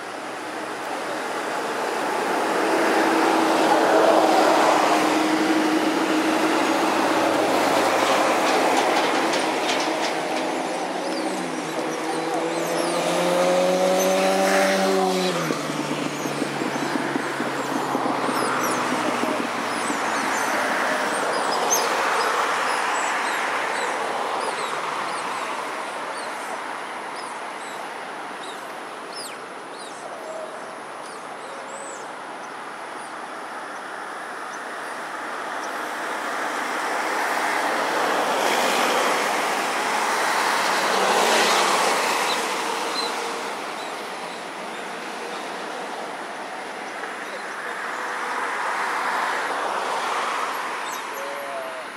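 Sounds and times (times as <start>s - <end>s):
traffic passing: 0.0s - 51.9s.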